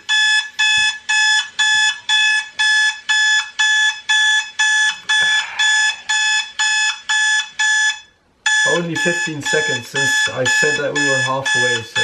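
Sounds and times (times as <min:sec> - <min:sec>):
alarm clock beeping: 0:00.0 - 0:12.0.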